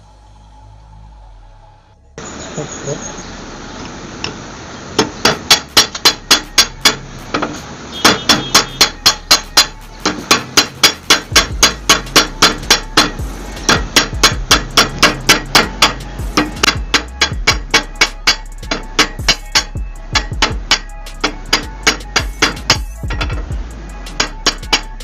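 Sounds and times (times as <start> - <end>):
hammer striking metal: 5.0 - 25.0.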